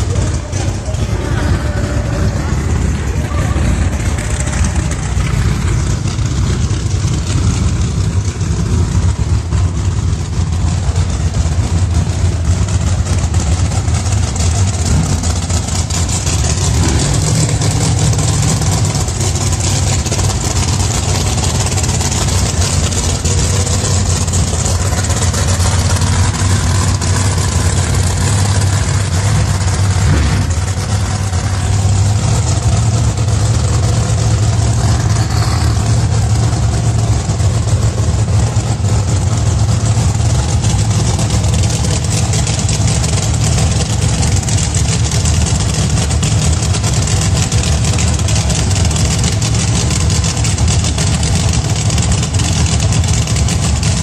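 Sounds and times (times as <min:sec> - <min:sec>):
race car engine idling: 0:00.0 - 0:54.0.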